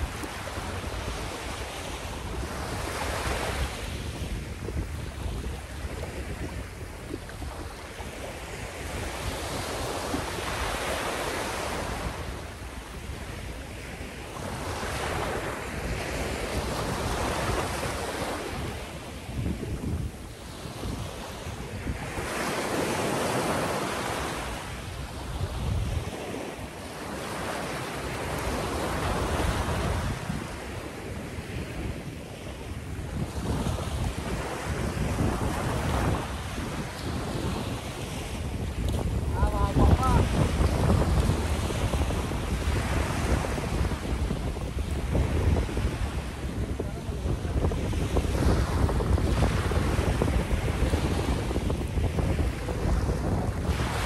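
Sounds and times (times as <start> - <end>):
small waves breaking on sand: 0.0 - 54.0
wind on microphone: 0.0 - 54.0.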